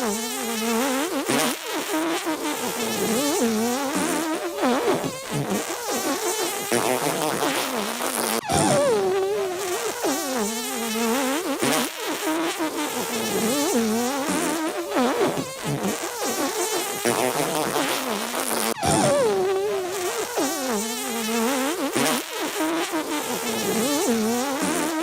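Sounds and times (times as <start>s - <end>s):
comic fart noises: 0.0s - 25.0s.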